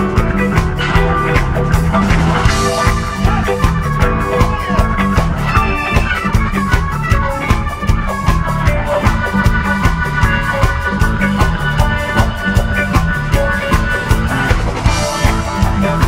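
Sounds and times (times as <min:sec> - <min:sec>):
bass guitar: 0:00.0 - 0:16.0
drum kit beat: 0:00.0 - 0:16.0
electric guitar: 0:00.0 - 0:16.0
keyboards: 0:00.0 - 0:16.0.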